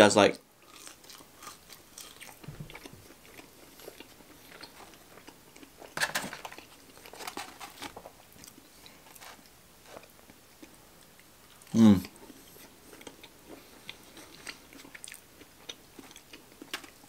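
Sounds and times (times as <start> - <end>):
chewing crunchy fries: 0.6 - 17.0.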